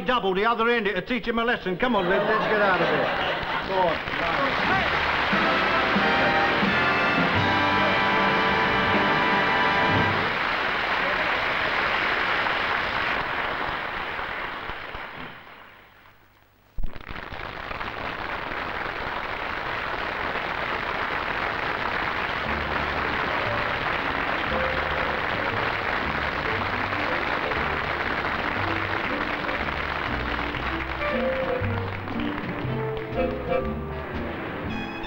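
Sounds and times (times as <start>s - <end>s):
studio audience applause: 2.3s - 16.0s, 16.9s - 35.0s.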